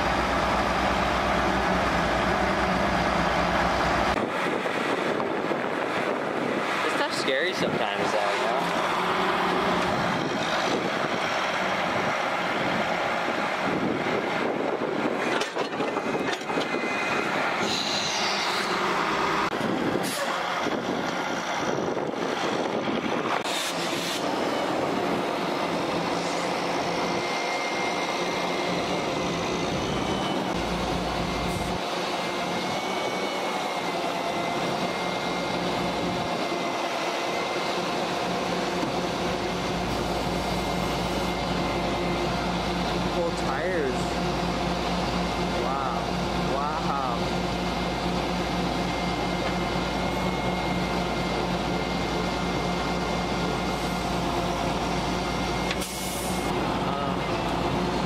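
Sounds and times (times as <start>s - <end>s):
freight train rolling past: 0.0s - 58.0s
heavy diesel engine running: 0.0s - 58.0s.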